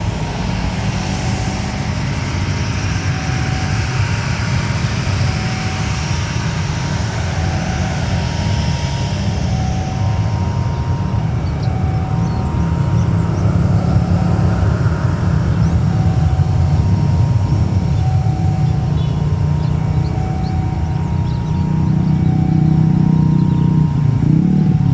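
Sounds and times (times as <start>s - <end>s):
jet engines rumbling: 0.0s - 24.9s.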